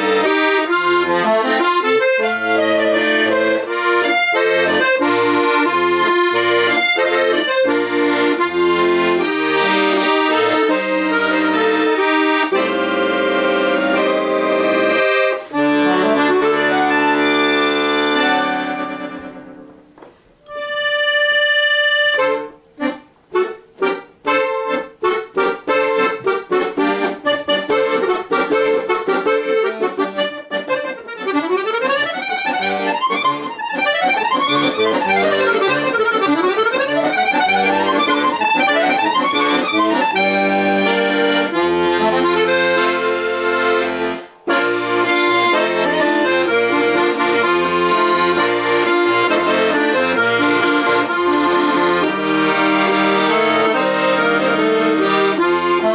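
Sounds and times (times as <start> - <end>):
accordion folk tune: 0.0 - 55.9.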